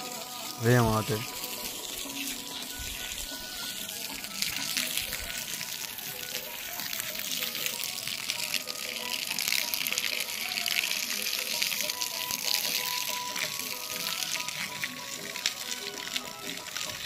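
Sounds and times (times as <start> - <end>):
water spraying from a hose: 0.0 - 17.0.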